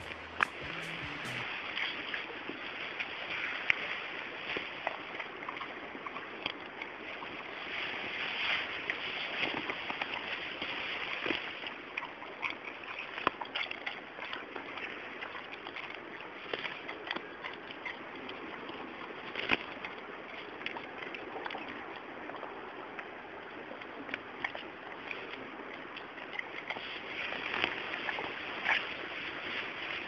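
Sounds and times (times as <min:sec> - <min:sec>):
small clicks and rustles: 0:01.8 - 0:30.0.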